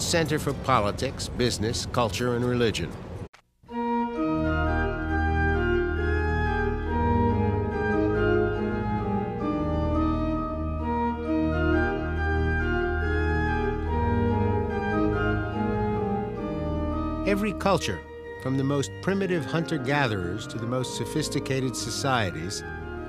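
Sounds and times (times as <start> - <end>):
organ playing held chords: 3.7 - 23.0.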